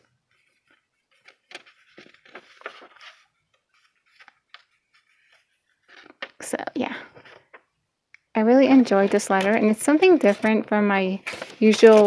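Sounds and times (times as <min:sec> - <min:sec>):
paper rustling: 0:00.0 - 0:06.5, 0:07.1 - 0:07.7, 0:08.7 - 0:12.0.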